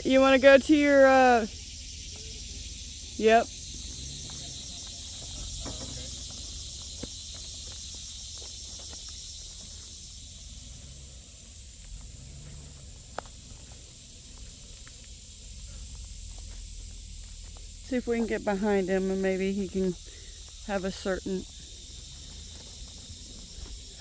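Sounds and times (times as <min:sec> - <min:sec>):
low steady rumble: 0:00.0 - 0:23.9
insects buzzing: 0:00.0 - 0:24.0.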